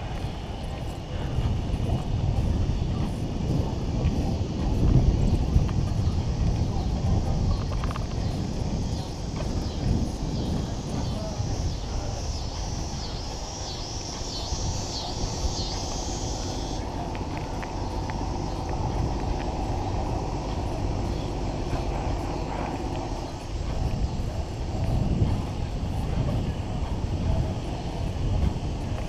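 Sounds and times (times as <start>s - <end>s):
bicycle tyre rumble on road: 0.0s - 29.0s
wind buffeting microphone: 0.0s - 29.0s.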